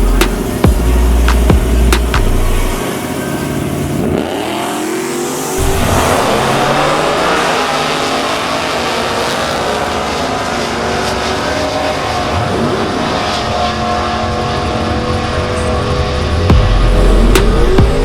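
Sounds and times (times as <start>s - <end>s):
truck engine running loud: 0.0s - 18.0s.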